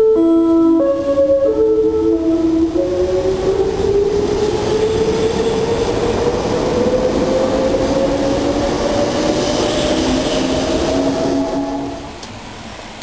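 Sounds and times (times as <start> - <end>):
electric train whine rising: 0.0 - 12.8
lower train whine: 0.0 - 13.0
train wheels rumbling: 0.8 - 13.0.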